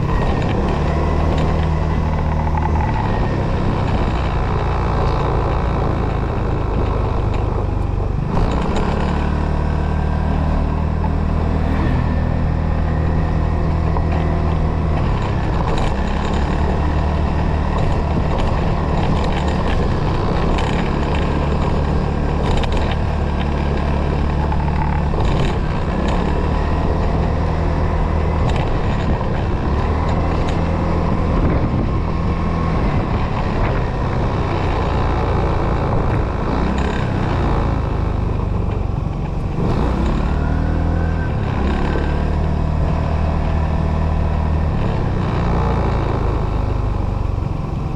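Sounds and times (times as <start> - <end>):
motorcycle engine running: 0.0 - 47.9
wind and road noise: 0.0 - 47.9.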